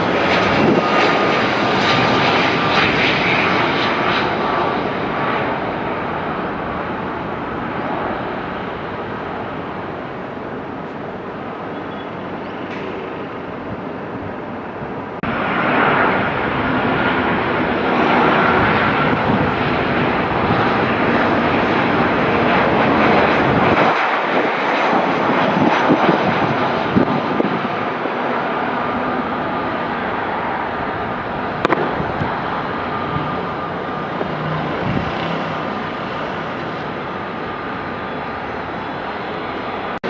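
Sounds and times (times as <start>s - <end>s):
airliner engines rushing: 0.0s - 40.0s.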